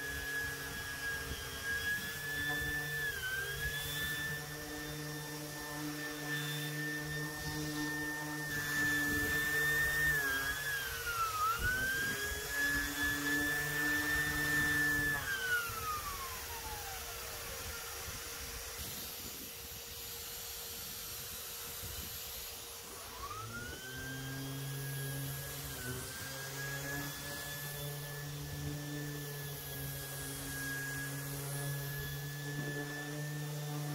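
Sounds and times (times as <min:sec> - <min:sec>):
dust extractor hum: 0:00.0 - 0:33.9
orbital sander whine: 0:00.0 - 0:33.9.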